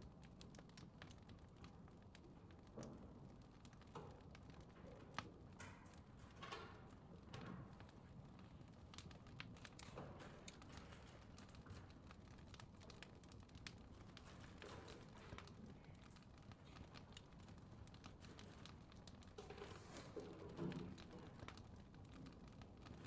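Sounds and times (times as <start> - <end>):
fireplace crackling: 0.0 - 23.0.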